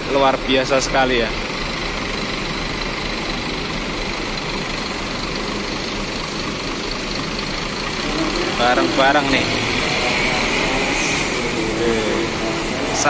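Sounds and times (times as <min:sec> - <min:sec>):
diesel engine running at low revs: 0:00.0 - 0:13.0.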